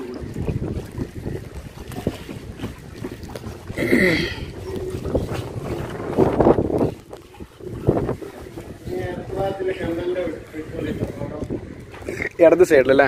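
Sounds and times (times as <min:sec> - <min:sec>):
water noise of boat: 0:00.0 - 0:13.0
wind buffeting microphone: 0:00.0 - 0:13.0.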